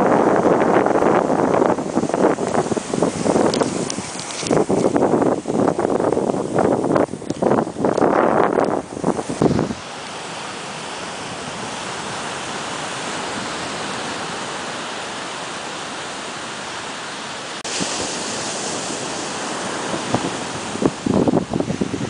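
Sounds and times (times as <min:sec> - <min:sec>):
rushing wind: 0:00.0 - 0:22.0.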